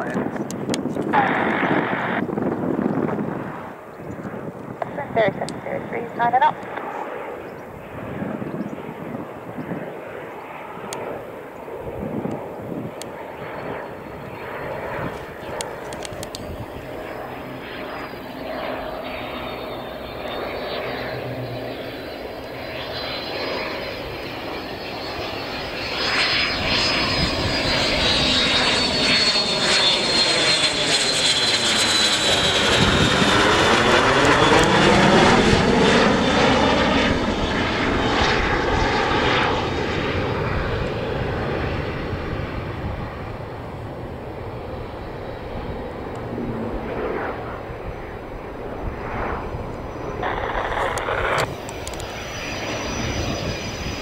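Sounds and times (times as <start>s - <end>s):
jet flying low overhead: 0.0s - 54.0s.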